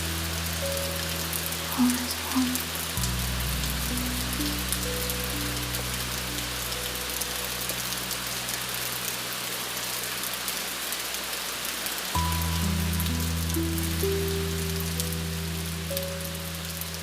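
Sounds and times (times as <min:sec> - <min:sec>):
low synth pad: 0:00.0 - 0:10.8, 0:12.2 - 0:17.0
steady rain falling: 0:00.0 - 0:17.0.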